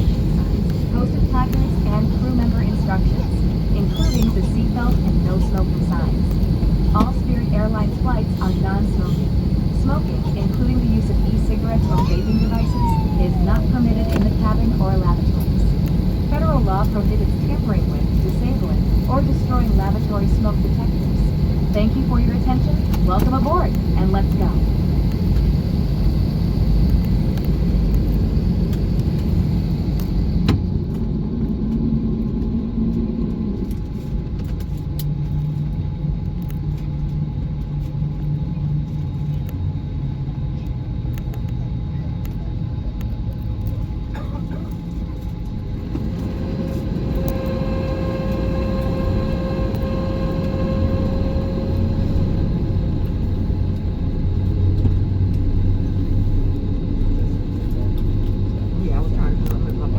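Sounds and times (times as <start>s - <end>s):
faint whining tones: 0.0s - 34.0s, 40.4s - 59.9s
aircraft cabin rumble: 0.0s - 59.9s.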